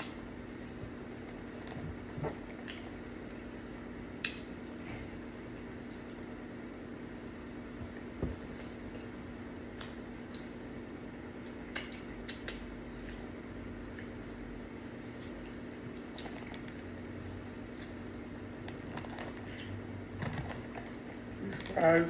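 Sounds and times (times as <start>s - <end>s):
person chewing food: 0.0s - 6.5s, 7.9s - 21.7s
steady low hum: 0.0s - 22.0s.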